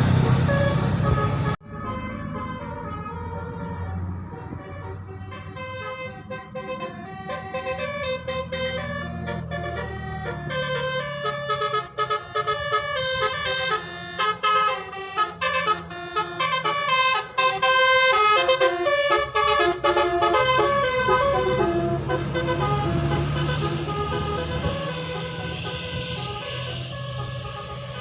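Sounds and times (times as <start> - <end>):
bus engine low hum: 0.0 - 28.0
bus horn playing a tune: 0.0 - 28.0.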